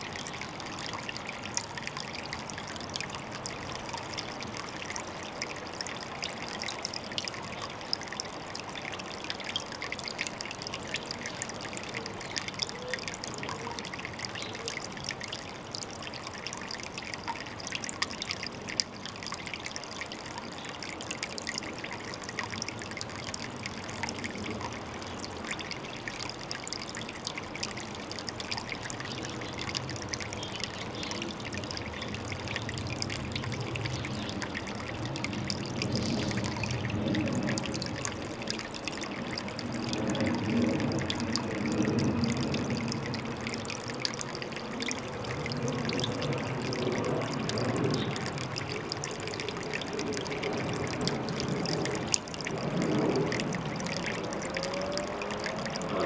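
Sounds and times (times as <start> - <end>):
water trickling into a pond: 0.0 - 56.0.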